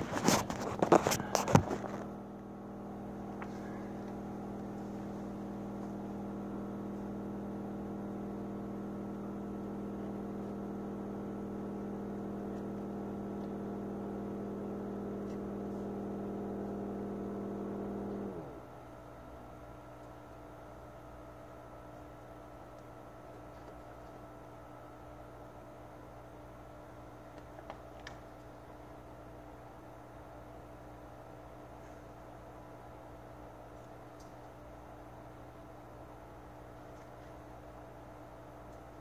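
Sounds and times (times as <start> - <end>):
filter pump motor humming: 0.0 - 39.0.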